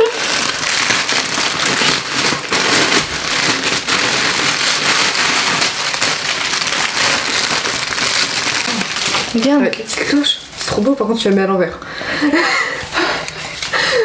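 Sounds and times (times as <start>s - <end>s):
plastic packaging crinkling: 0.0s - 11.6s, 12.2s - 14.0s.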